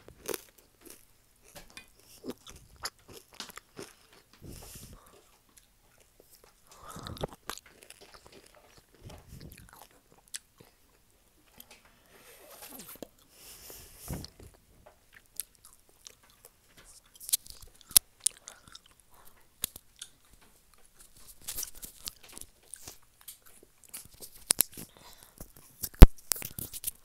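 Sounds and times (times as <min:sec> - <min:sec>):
mouth clicks and crackles: 0:00.0 - 0:27.0.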